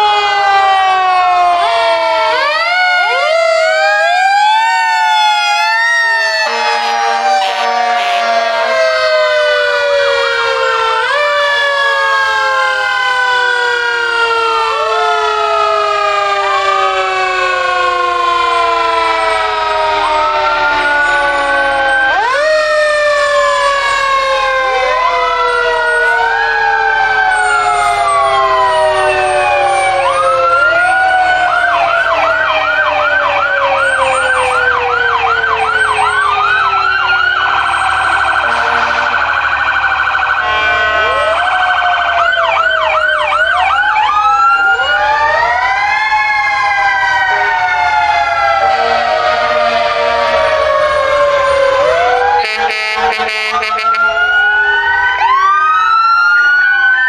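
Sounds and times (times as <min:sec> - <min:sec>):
fast siren yelp: 0:00.0 - 0:57.0
wailing emergency sirens: 0:00.0 - 0:57.0.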